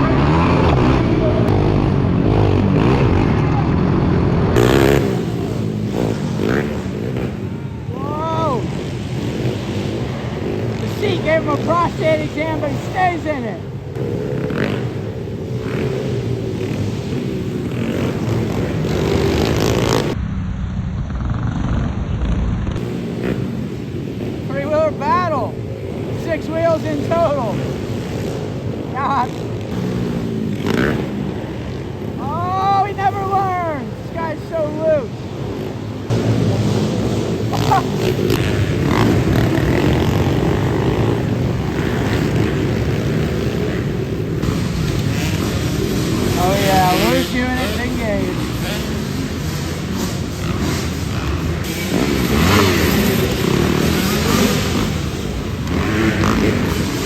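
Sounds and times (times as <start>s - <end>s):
small motorcycle engines revving: 0.0s - 57.0s.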